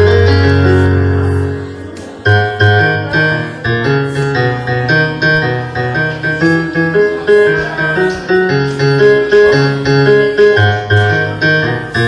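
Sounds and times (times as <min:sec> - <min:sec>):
piano chords over bass line: 0:00.0 - 0:12.0.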